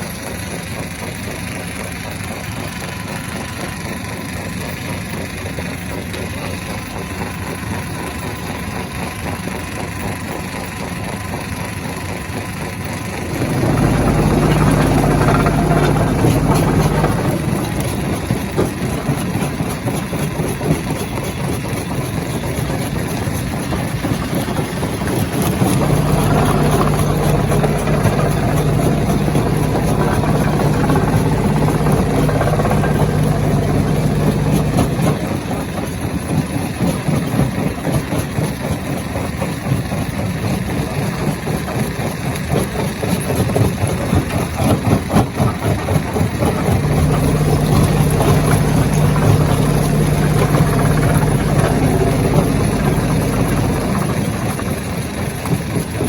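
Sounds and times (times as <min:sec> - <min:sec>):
stone crusher machinery running: 0:00.0 - 0:56.0.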